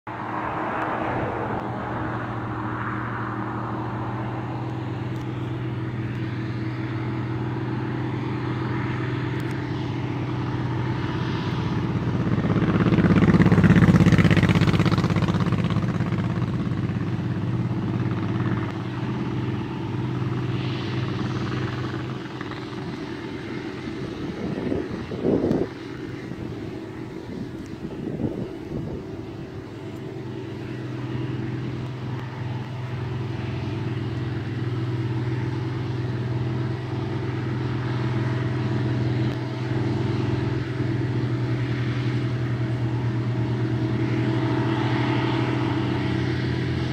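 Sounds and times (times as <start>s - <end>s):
crawler tractor diesel engine: 0.0s - 46.9s.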